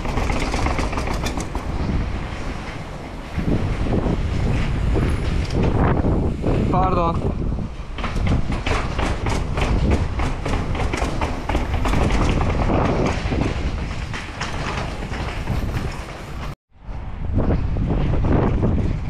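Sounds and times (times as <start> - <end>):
mountain bike rattling: 0.0 - 6.9, 7.5 - 16.6
wind rumble on microphone: 0.0 - 19.0.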